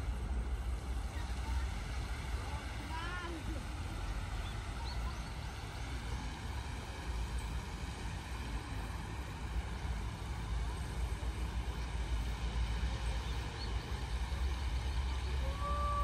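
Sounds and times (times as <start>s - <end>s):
fountain jets hissing: 0.0s - 16.0s.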